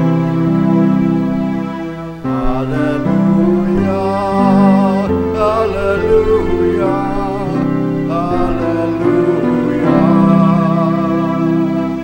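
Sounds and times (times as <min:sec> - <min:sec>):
organ holding chords: 0:00.0 - 0:12.0.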